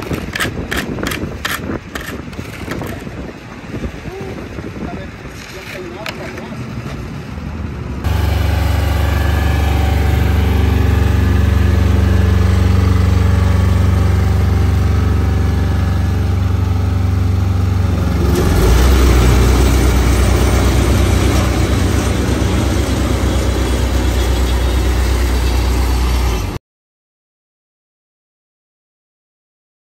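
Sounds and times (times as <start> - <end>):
road roller engine running: 0.0 - 26.6.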